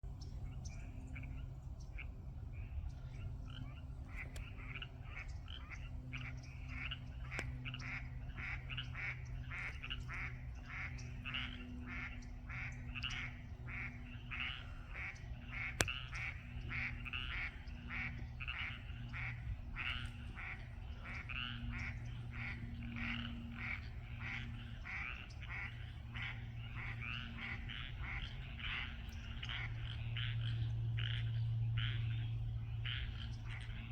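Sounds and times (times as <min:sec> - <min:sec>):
low steady hum: 0:00.0 - 0:33.9
frogs and ducks calling: 0:00.2 - 0:33.9.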